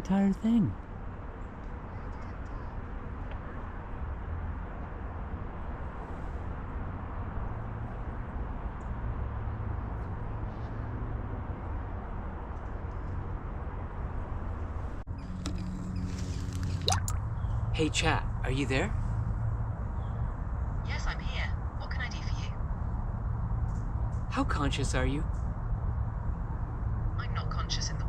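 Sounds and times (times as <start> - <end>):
continuous low rumble: 0.0 - 28.0.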